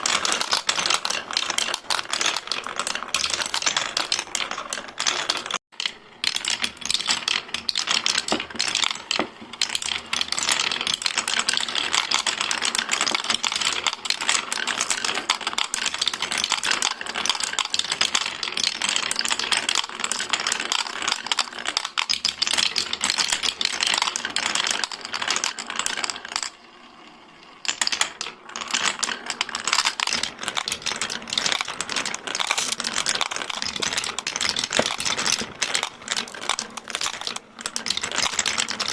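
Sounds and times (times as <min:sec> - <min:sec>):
marbles rolling and clattering: 0:00.0 - 0:38.9.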